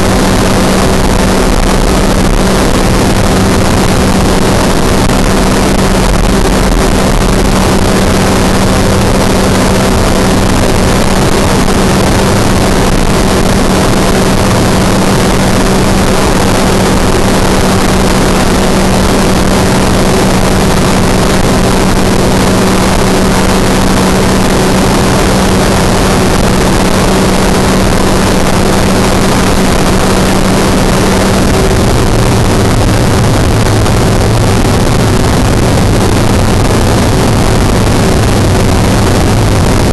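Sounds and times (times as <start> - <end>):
aircraft engine drone: 0.0 - 39.9
wind rush: 0.0 - 39.9.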